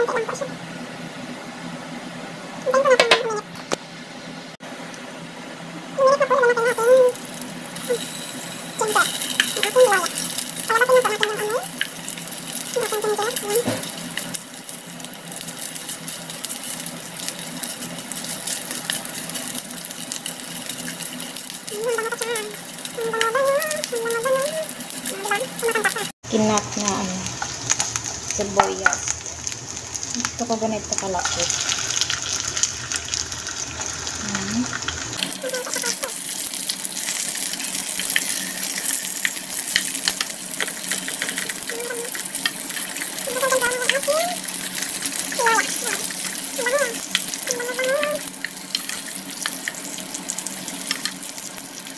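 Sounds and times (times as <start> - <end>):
oil sizzling in frying pan: 6.6 - 51.9.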